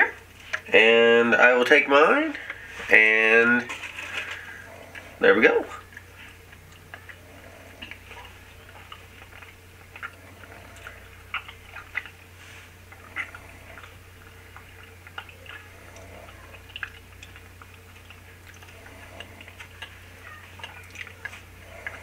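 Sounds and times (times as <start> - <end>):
low steady hum: 0.0 - 22.0
people chewing with mouths closed: 0.0 - 22.0.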